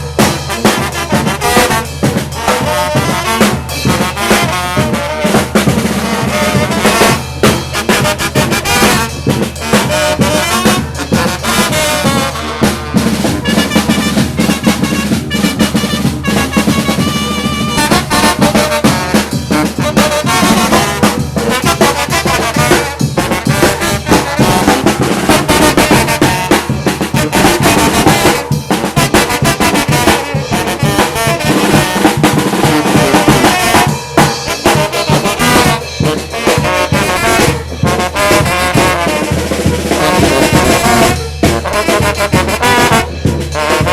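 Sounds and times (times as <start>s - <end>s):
brass band playing: 0.0s - 43.9s.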